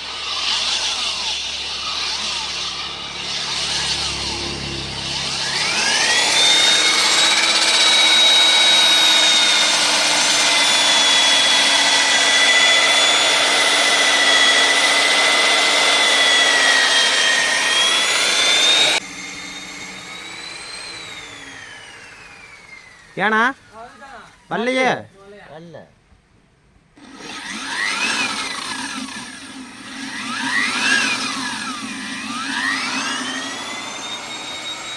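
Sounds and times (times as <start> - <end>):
core drill cutting concrete: 0.0 - 24.9, 27.0 - 34.9.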